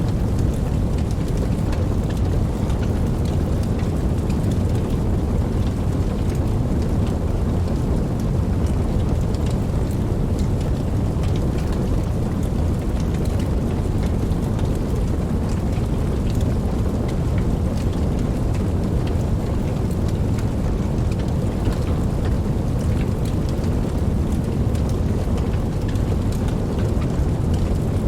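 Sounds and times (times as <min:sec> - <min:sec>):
raindrops ticking: 0:00.0 - 0:28.0
steady rain falling: 0:00.0 - 0:28.0.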